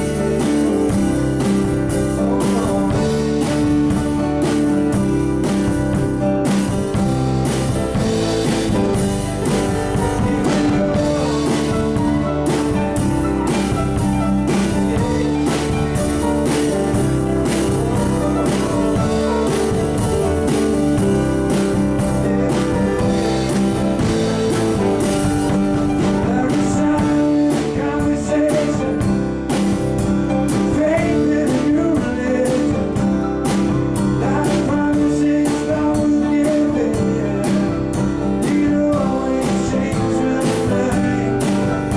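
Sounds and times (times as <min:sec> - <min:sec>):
guitar: 0:00.0 - 0:41.9
live rock band: 0:00.0 - 0:41.9
steady drum beat: 0:00.0 - 0:41.9.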